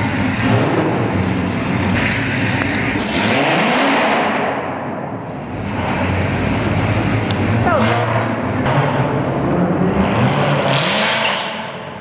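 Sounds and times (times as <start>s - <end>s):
car engine revving: 0.0s - 12.0s
other cars running: 0.0s - 12.0s.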